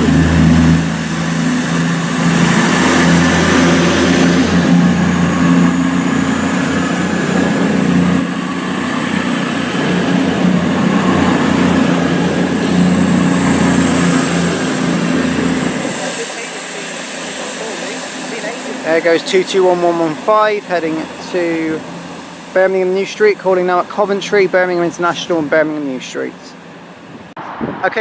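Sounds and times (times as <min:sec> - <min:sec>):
high whine: 0:00.0 - 0:28.0
train diesel engines droning: 0:00.0 - 0:28.0.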